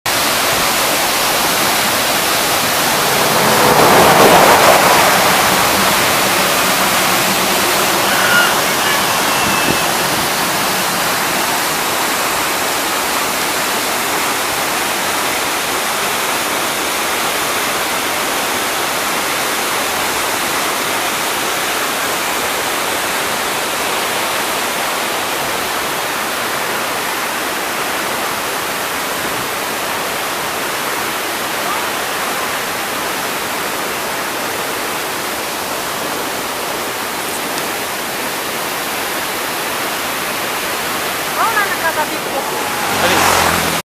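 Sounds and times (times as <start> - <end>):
waterfall rushing: 0.1 - 43.9.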